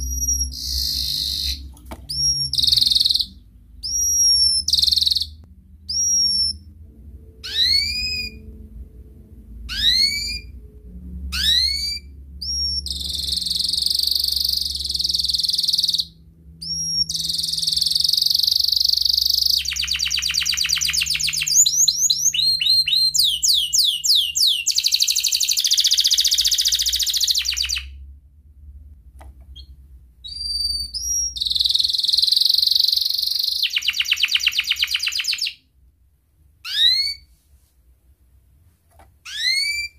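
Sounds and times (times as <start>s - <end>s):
canary singing: 0.0s - 8.8s, 9.6s - 28.0s, 29.5s - 35.7s, 36.6s - 37.3s, 39.2s - 39.9s.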